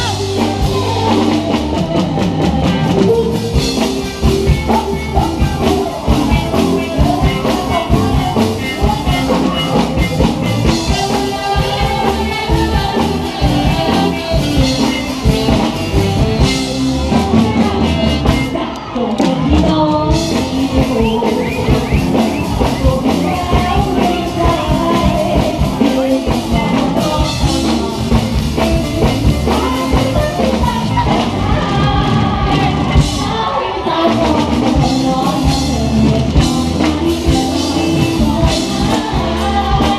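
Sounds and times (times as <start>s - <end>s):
live rock band playing: 0.0s - 39.9s
person singing: 0.0s - 39.9s.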